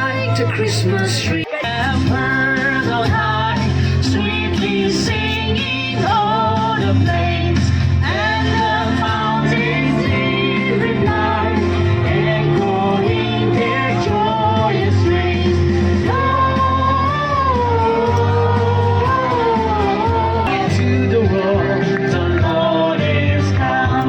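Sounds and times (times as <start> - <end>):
christmas song with backing band: 0.0 - 24.0.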